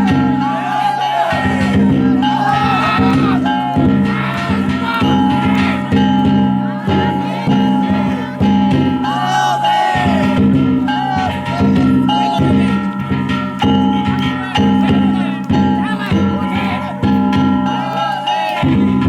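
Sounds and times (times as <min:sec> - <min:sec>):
big drum strikes: 0:00.0 - 0:18.0
hand gongs ringing: 0:00.0 - 0:19.0
voices calling and chanting: 0:00.0 - 0:19.0.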